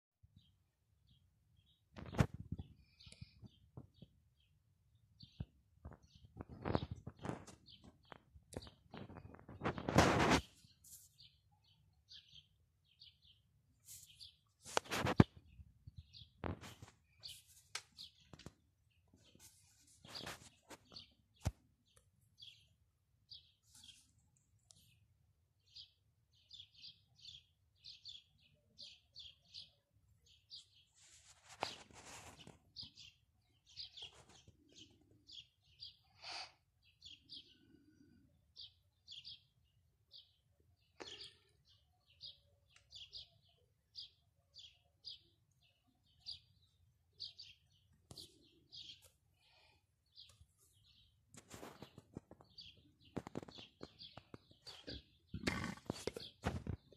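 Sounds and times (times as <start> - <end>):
small birds chirping: 0.2 - 56.9.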